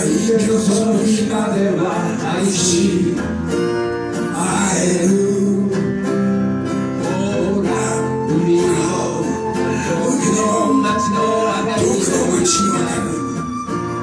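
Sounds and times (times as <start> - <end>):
acoustic guitars strumming: 0.0 - 14.0
held lead melody: 0.0 - 14.0.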